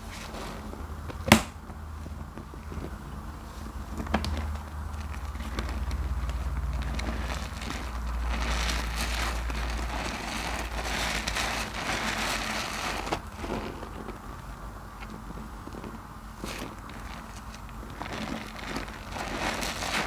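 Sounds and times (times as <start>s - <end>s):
hands kneading soapy loofah: 0.0s - 20.0s.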